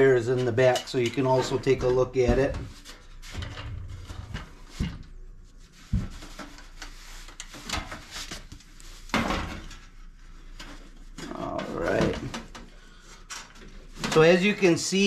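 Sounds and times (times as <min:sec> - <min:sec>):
scraping and handling noise: 0:00.0 - 0:15.0.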